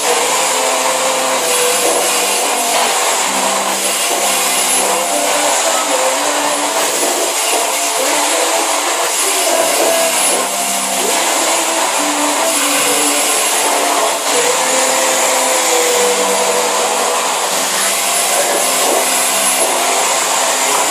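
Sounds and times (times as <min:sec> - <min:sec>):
vacuum cleaner running: 0:00.0 - 0:20.9.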